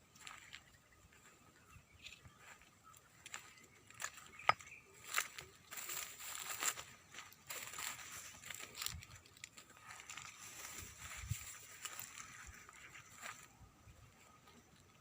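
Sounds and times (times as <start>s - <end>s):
footsteps on stony ground: 0.0s - 15.0s.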